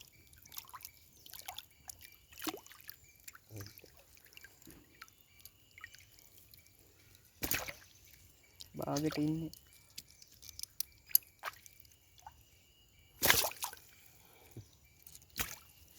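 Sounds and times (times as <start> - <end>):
water dripping and trickling: 0.0 - 15.9.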